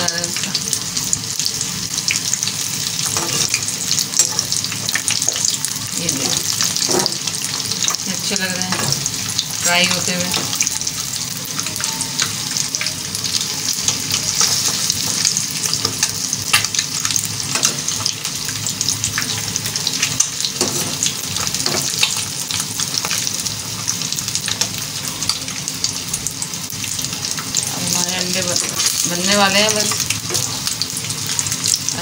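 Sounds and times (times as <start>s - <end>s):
eggs frying in hot oil: 0.0s - 32.0s.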